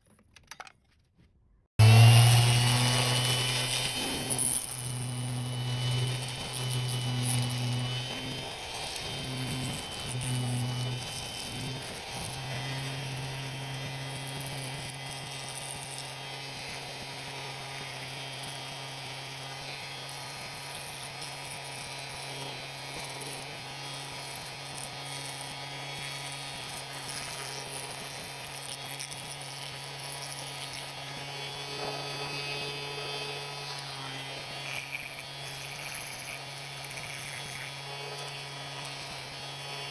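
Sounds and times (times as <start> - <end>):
power tool motor hum: 1.8 - 39.9.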